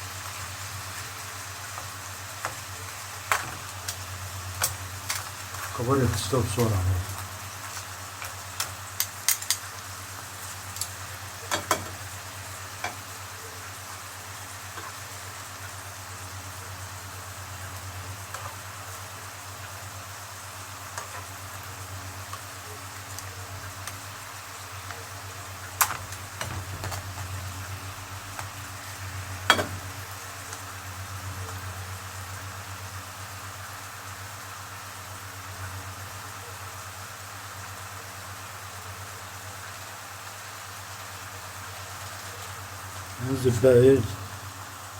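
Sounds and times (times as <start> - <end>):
seafood sizzling in oil: 0.0 - 44.9.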